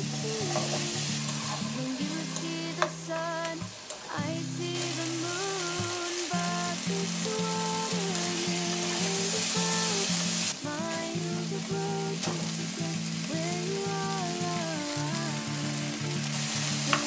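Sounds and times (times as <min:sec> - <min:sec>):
spatula stir-frying rice: 0:00.0 - 0:02.9, 0:03.7 - 0:17.0
food sizzling in frying pan: 0:00.0 - 0:17.0
gentle background music: 0:00.0 - 0:17.0.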